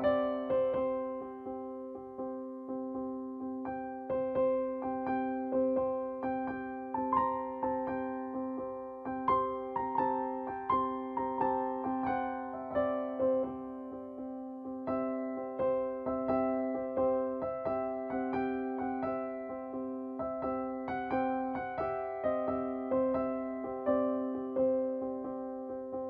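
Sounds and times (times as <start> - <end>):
gentle keyboard melody: 0.0 - 26.0.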